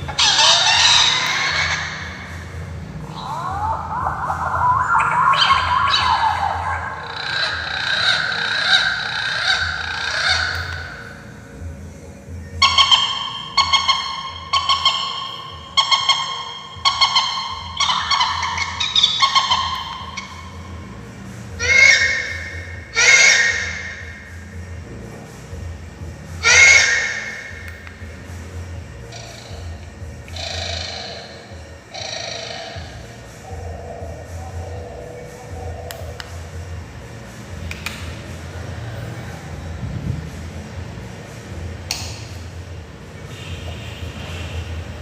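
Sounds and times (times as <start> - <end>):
recorded birdsong chirps and trills: 0.0 - 45.0.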